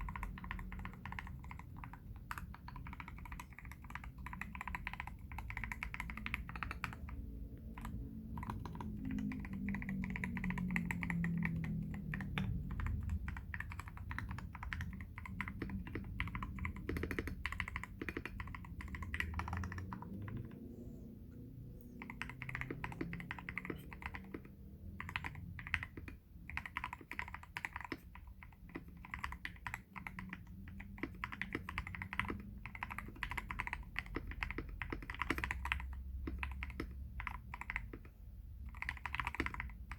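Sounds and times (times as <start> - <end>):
mechanical keyboard typing: 0.0 - 20.6, 21.8 - 39.9.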